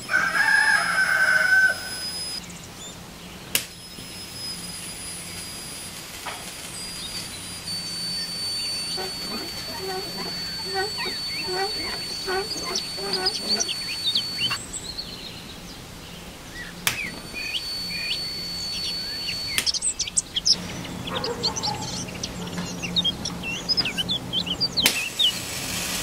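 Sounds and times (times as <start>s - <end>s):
birds chirping: 0.0s - 25.7s
high-pitched electrical whine: 0.0s - 26.0s.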